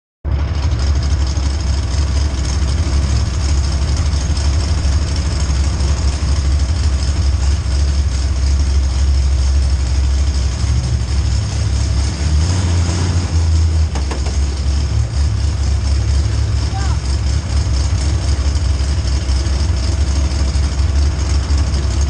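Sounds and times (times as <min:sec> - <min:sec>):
car engine idling: 0:00.2 - 0:22.0.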